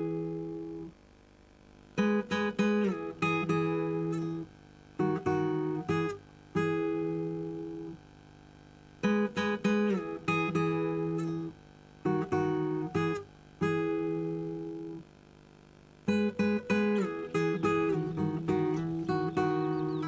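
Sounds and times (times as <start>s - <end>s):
acoustic guitar plucking: 0.0s - 0.9s, 1.9s - 8.0s, 9.0s - 15.0s, 16.0s - 20.0s.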